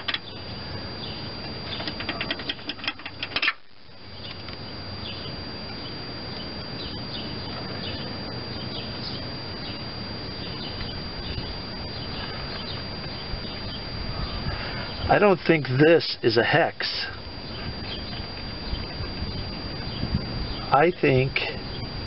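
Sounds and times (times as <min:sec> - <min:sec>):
faint bird chirps: 0:00.0 - 0:02.5, 0:03.9 - 0:16.0, 0:17.1 - 0:22.0
outdoor background: 0:00.0 - 0:22.0.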